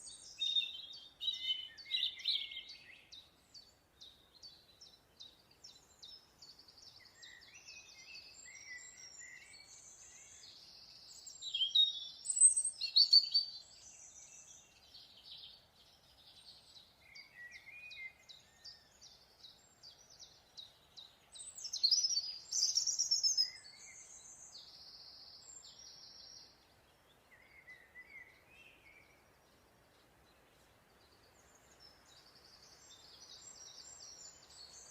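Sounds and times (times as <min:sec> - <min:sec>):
birds singing and chirping: 0:00.0 - 0:34.9.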